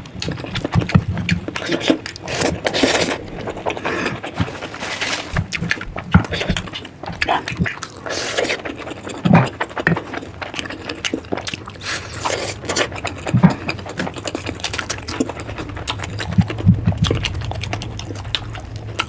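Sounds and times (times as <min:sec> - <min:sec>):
chewing and mouth smacking: 0:00.0 - 0:19.0.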